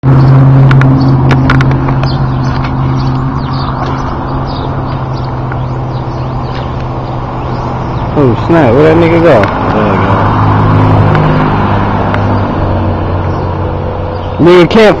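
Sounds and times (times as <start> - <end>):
car engine humming: 0.0 - 15.0
road or wind noise: 0.0 - 15.0.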